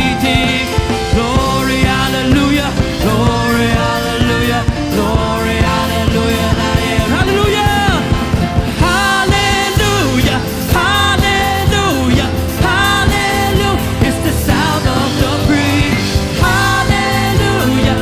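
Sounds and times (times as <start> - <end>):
drums: 0.0 - 18.0
gliding lead melody: 0.0 - 18.0
live band playing: 0.0 - 18.0
sustained bass: 0.0 - 18.0.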